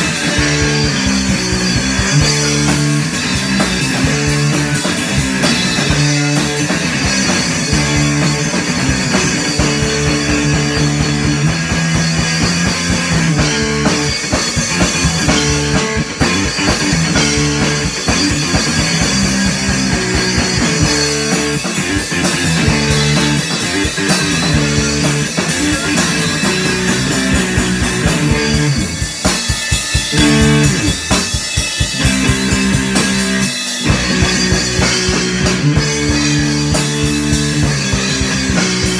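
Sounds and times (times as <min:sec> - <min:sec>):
drum kit playing: 0:00.0 - 0:38.9
electric guitar riff: 0:00.0 - 0:38.9.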